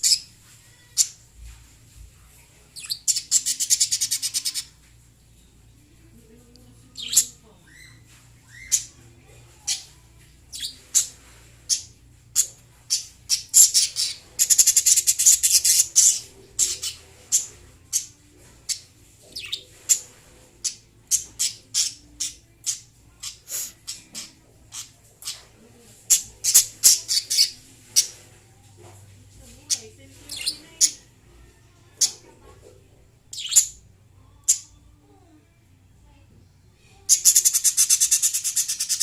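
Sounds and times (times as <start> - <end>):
lovebirds chirping and squawking: 0.0 - 1.3, 2.6 - 5.5, 6.8 - 31.2, 31.9 - 34.8, 36.9 - 39.0.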